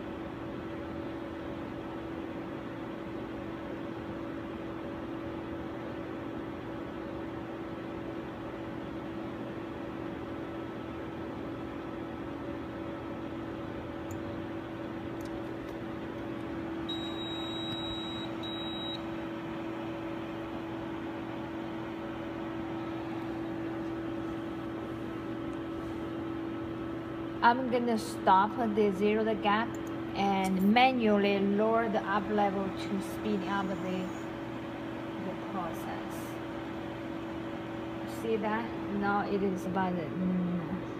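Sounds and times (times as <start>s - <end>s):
laboratory equipment humming: 0.0s - 40.9s.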